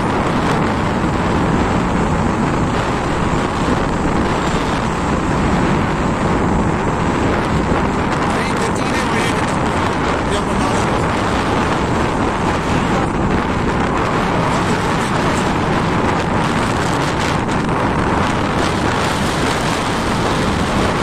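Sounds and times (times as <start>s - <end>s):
motorbike running with road noise: 0.0s - 21.0s
wind rushing over microphone: 0.0s - 21.0s.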